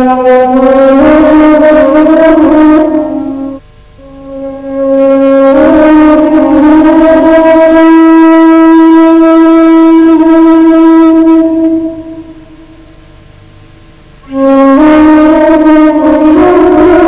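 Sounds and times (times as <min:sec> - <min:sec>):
wind instrument holding long note: 0:00.0 - 0:12.9, 0:14.2 - 0:17.0.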